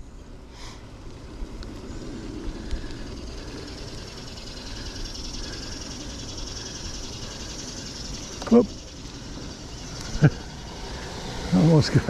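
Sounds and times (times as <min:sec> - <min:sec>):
bicycle road noise: 0:00.0 - 0:12.0
steady hiss: 0:00.2 - 0:12.0.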